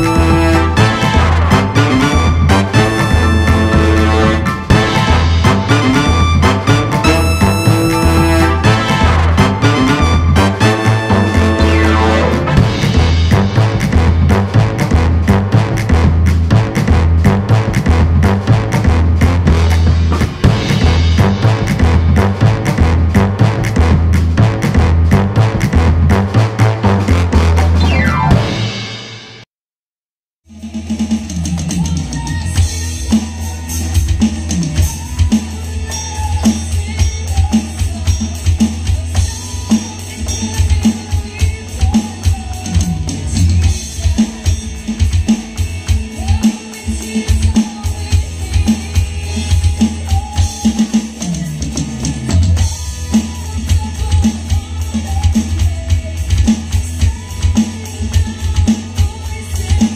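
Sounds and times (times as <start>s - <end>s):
backing song with bass and guitar: 0.0s - 29.0s, 32.0s - 59.9s
electronic drum kit beat: 0.0s - 29.4s, 30.6s - 59.9s.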